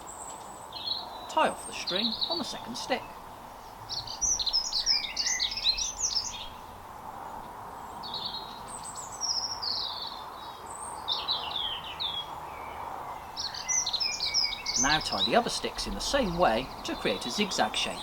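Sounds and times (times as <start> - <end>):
songbird chirping: 0.0 - 18.0
steady background noise: 0.0 - 18.0.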